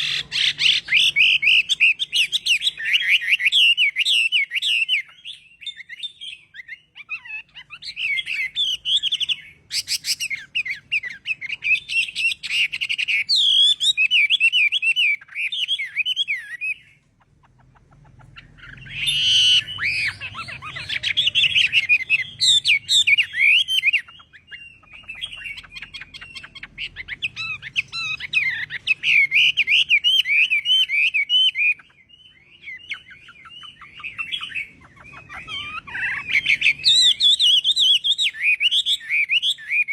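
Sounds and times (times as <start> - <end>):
bird warbling: 0.0 - 39.9.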